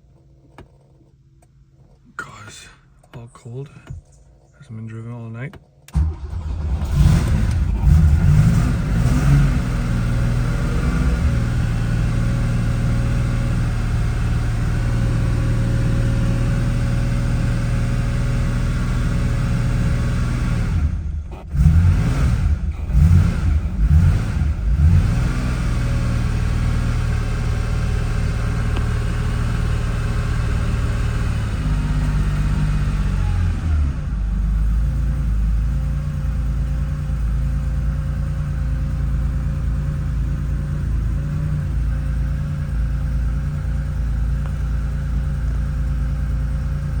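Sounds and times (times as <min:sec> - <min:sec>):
car engine idling: 0:00.0 - 0:47.0
car engine throttle blips: 0:00.0 - 0:47.0.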